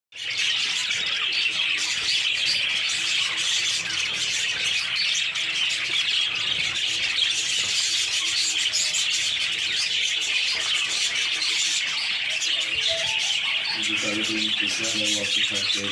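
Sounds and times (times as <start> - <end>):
caged birds chirping: 0.1 - 15.9.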